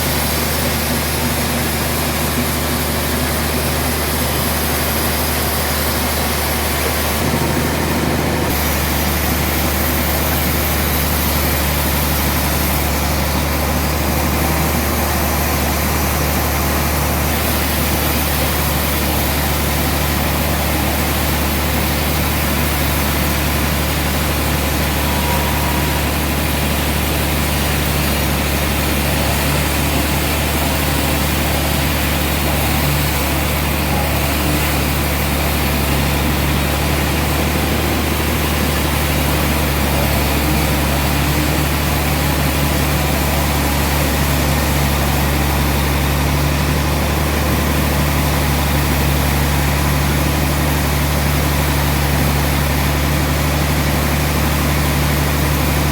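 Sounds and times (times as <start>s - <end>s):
sawmill machinery humming: 0.0s - 55.9s.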